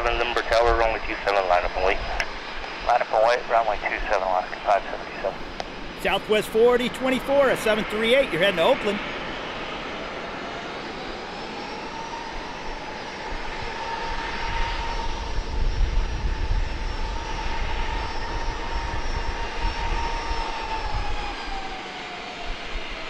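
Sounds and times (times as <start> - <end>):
deep jet rumble: 0.0 - 21.8
jet engine fan whine: 0.0 - 23.0.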